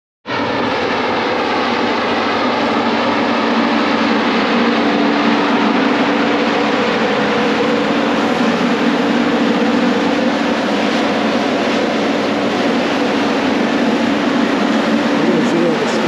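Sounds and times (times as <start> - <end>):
combine harvester engine droning: 0.3 - 16.0.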